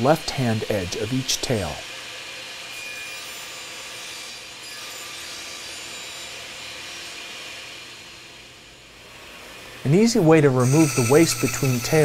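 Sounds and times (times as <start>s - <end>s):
table saw cutting wood: 0.0s - 8.2s, 10.5s - 12.0s.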